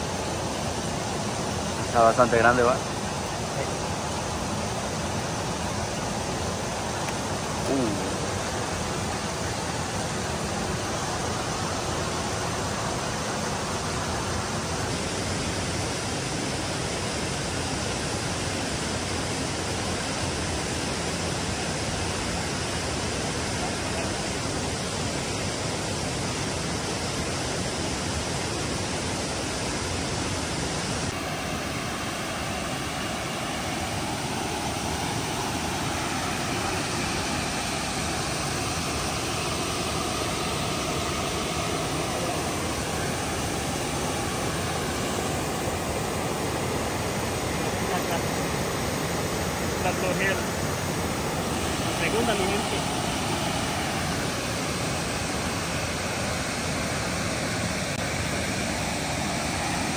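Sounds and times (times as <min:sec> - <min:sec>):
falling water rushing: 0:00.0 - 0:59.9.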